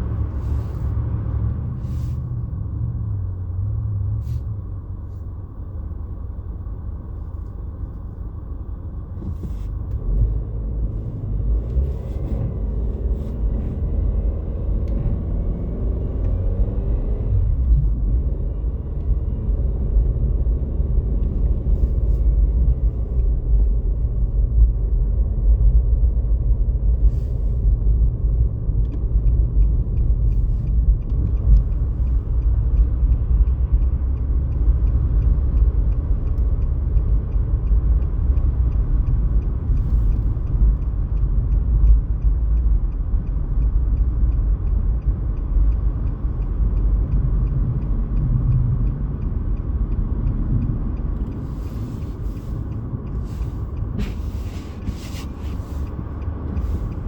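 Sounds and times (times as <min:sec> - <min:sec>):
vehicle driving rumble: 0:00.0 - 0:57.0.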